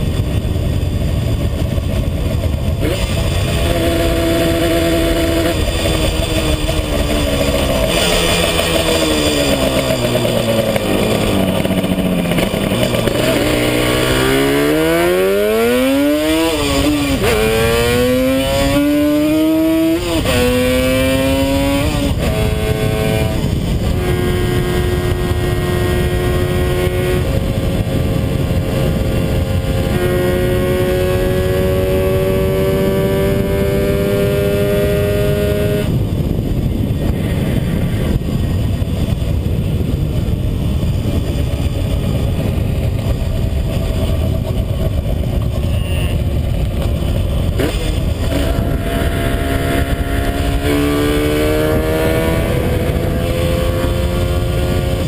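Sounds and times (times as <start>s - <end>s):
motorcycle engine revving: 0.0s - 55.0s
wind rush: 0.0s - 55.0s.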